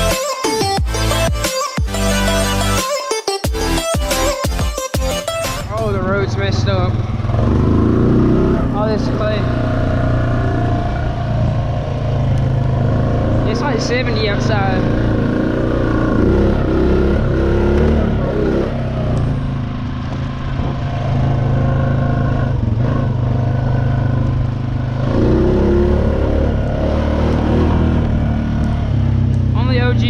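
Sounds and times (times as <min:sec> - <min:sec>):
atv engine running: 0:05.1 - 0:30.0.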